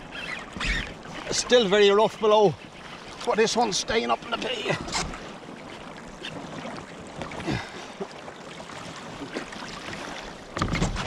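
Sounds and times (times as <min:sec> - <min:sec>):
water slapping against a hull: 0:00.0 - 0:11.0.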